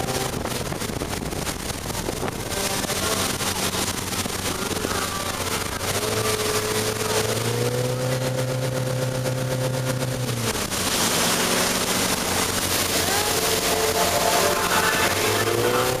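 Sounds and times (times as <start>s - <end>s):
motorboat engine running: 0.0s - 16.0s
rushing water and wind: 0.0s - 16.0s.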